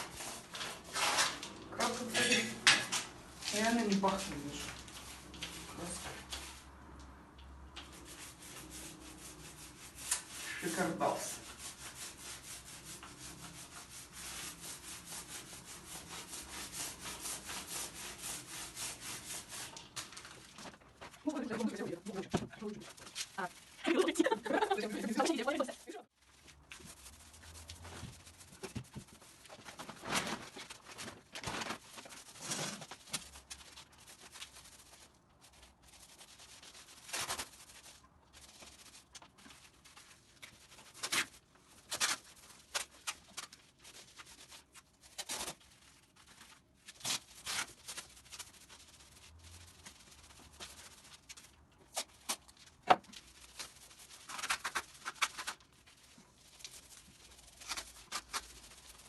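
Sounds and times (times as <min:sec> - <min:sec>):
paint roller rubbing on wall: 0:07.8 - 0:59.0.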